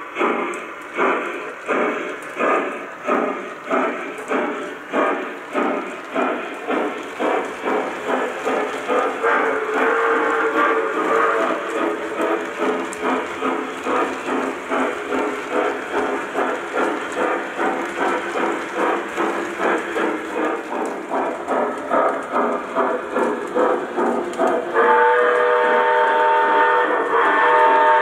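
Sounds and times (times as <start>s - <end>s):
model steam locomotive chuffing: 0.0s - 28.0s
train wheels rolling on track: 0.0s - 28.0s.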